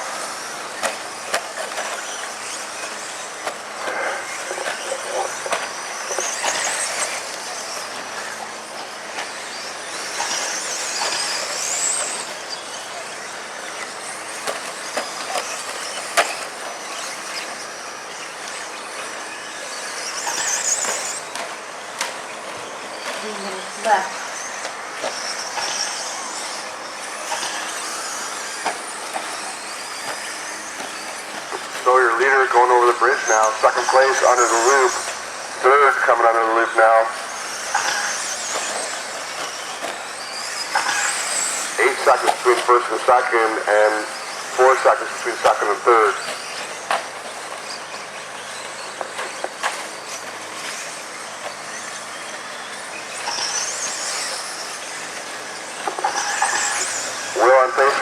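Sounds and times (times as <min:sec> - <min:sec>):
toy truck motors whining: 0:00.0 - 0:58.0.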